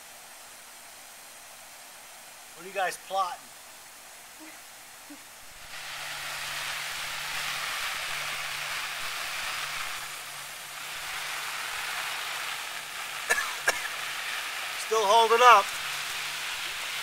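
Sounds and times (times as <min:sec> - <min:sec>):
water spraying on a tarp: 0:00.0 - 0:17.0.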